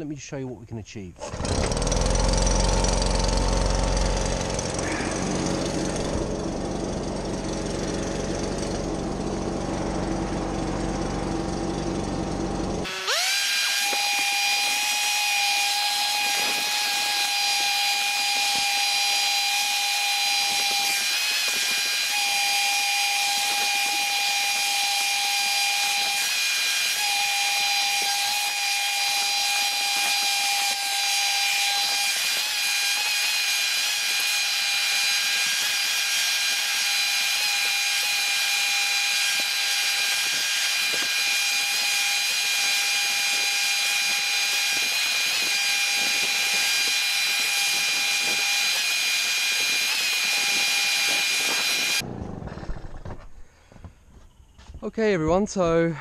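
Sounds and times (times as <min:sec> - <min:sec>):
leaf blower whining: 0:01.2 - 0:53.8.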